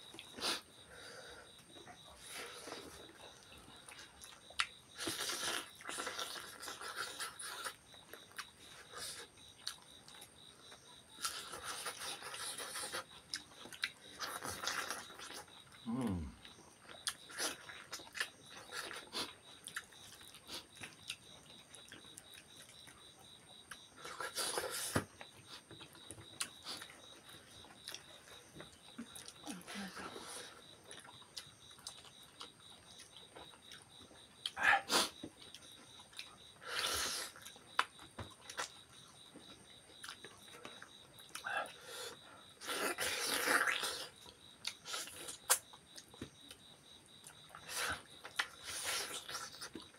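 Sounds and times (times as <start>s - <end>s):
people chewing and lip-smacking: 0.0s - 49.9s.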